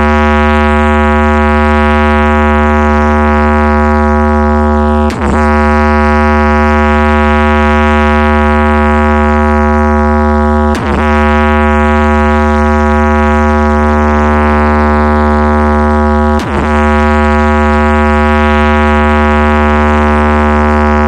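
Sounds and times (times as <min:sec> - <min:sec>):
buzzing synth drone with deep bass: 0:00.0 - 0:21.0
synth sweep: 0:00.0 - 0:21.0.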